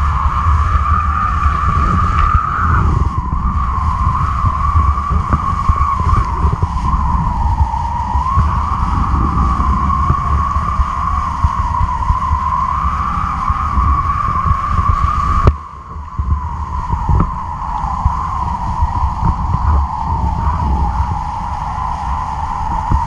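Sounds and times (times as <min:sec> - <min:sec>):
steady droning hum: 0:00.0 - 0:23.0
wind buffeting camera: 0:00.0 - 0:23.0.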